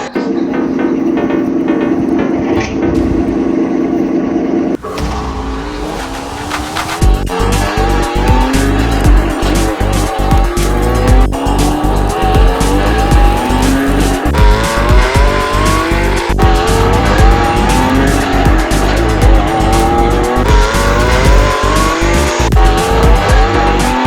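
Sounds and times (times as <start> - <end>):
music with steady beat: 0.0 - 4.1, 6.8 - 24.0
race car engine revving: 0.2 - 24.0.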